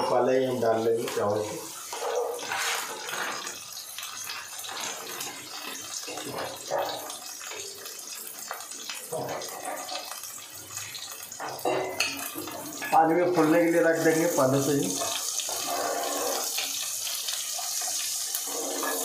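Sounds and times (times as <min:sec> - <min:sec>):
onions sizzling in a pan: 0:00.0 - 0:19.0.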